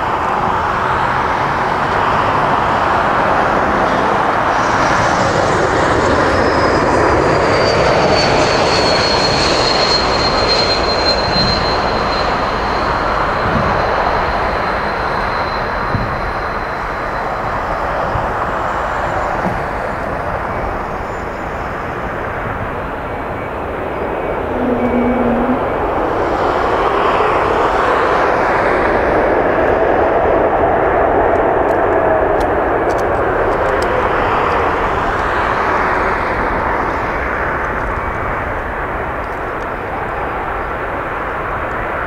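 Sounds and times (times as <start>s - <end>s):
jet engines rushing: 0.0s - 38.9s
jet engine whine: 0.0s - 42.0s.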